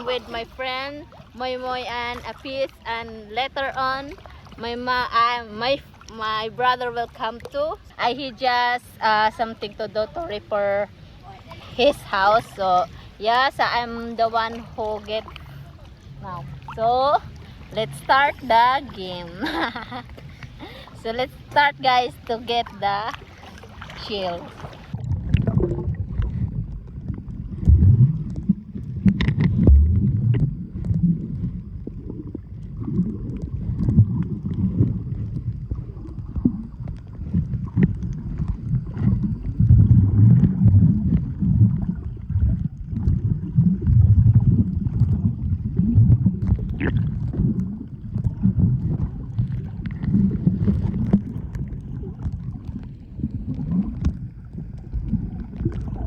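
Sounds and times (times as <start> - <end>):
low uneven rumble: 0.0 - 56.0
seawater sloshing: 0.0 - 56.0.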